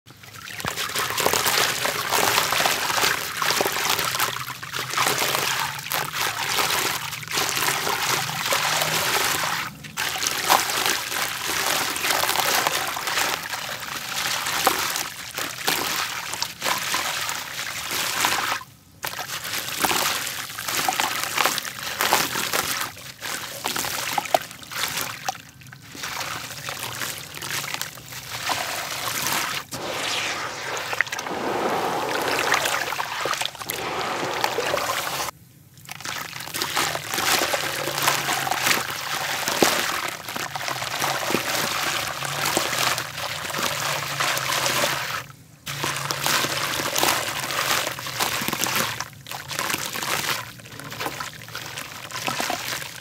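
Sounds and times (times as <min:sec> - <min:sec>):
grains trickling into water: 0:00.4 - 0:18.6, 0:19.2 - 0:45.0.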